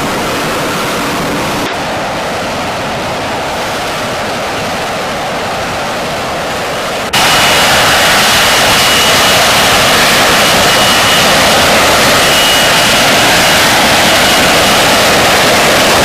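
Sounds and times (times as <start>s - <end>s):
jet engine roaring: 0.0s - 16.0s
thin high whine: 0.0s - 16.0s.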